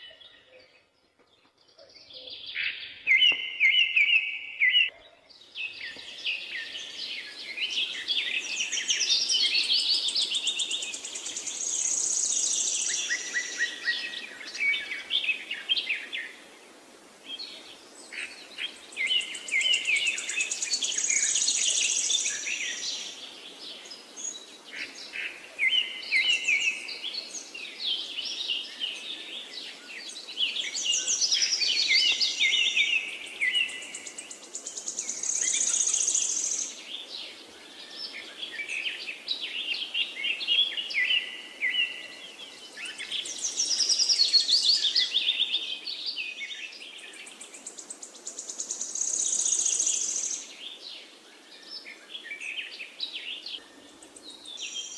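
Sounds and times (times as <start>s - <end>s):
birds singing: 0.0s - 54.9s.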